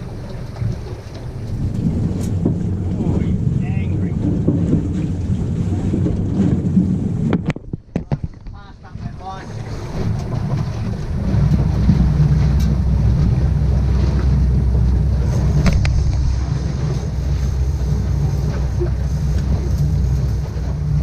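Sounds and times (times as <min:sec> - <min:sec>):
boat engine running: 0:00.0 - 0:21.0
wind buffeting microphone: 0:00.0 - 0:21.0.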